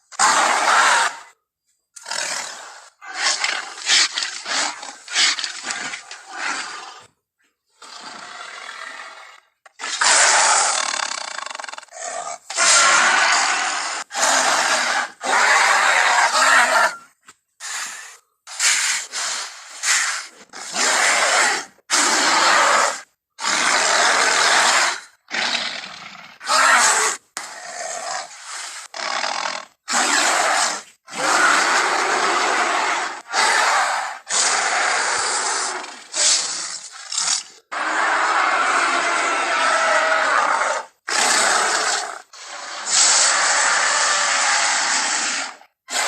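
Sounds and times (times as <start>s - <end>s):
giant ape roars and grunts: 0.1s - 1.4s, 7.7s - 46.0s.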